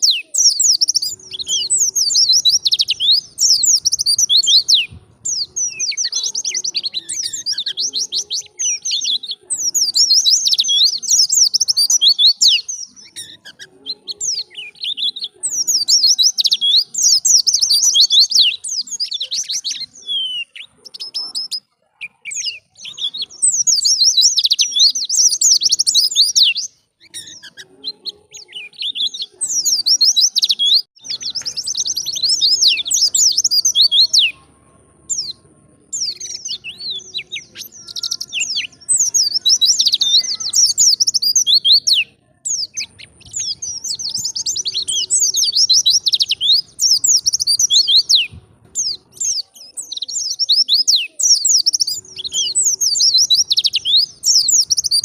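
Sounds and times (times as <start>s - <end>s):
bird twittering: 0.0s - 34.4s, 35.1s - 55.0s.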